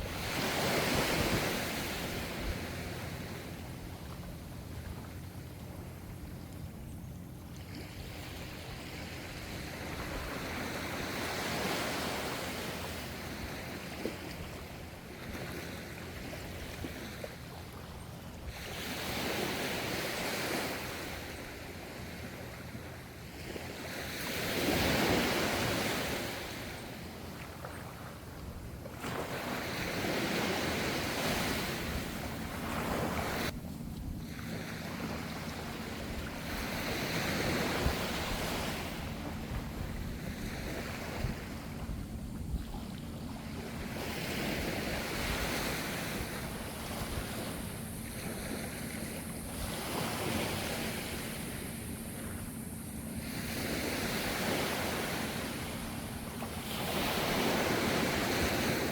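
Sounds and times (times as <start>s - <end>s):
ocean waves washing ashore: 0.0s - 58.9s.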